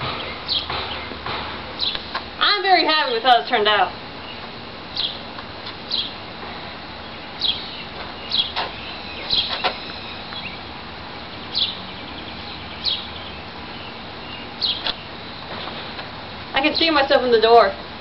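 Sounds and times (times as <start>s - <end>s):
bird chirping: 0.0s - 6.3s, 6.9s - 15.4s
background hiss: 0.0s - 18.0s.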